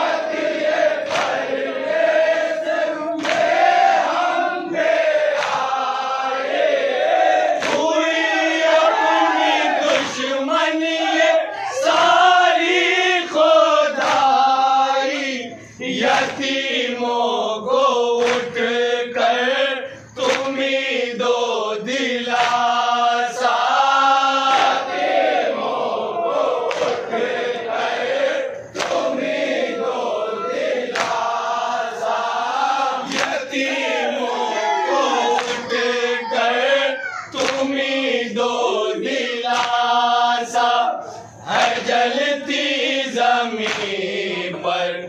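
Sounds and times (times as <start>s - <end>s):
men chanting a lament: 0.0s - 45.0s.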